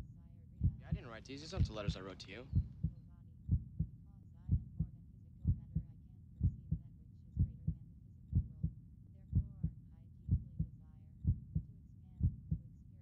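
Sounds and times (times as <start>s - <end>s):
heartbeat thumps: 0.6s - 12.7s.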